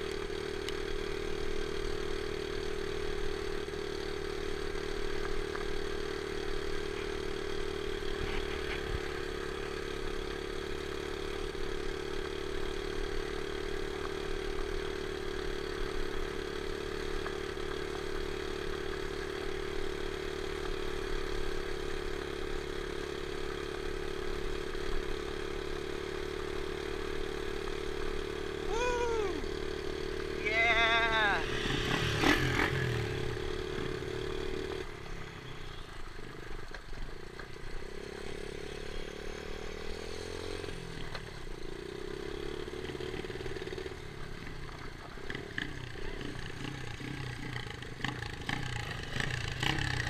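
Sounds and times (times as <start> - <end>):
dirt bike engine running: 0.0 - 50.0.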